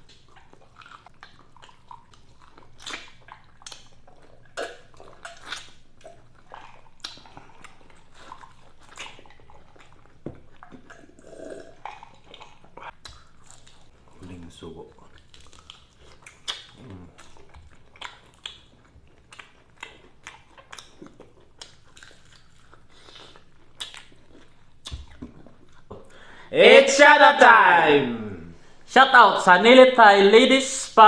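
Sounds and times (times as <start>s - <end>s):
chewing and mouth smacks: 0.0s - 26.3s.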